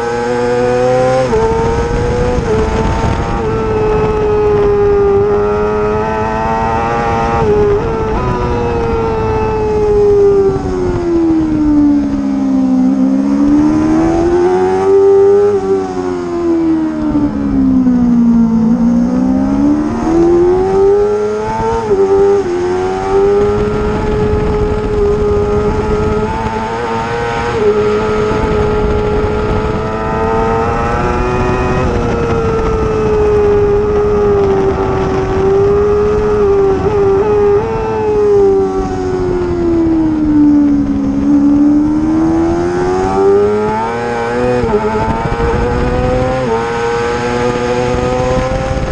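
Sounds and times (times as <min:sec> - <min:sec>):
racing motorcycle engine revving: 0:00.0 - 0:48.9.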